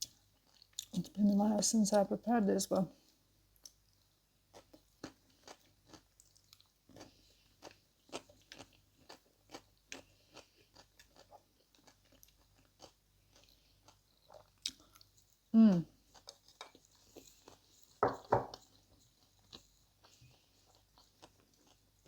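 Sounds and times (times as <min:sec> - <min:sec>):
chewing food: 0:00.0 - 0:01.3, 0:03.6 - 0:22.0.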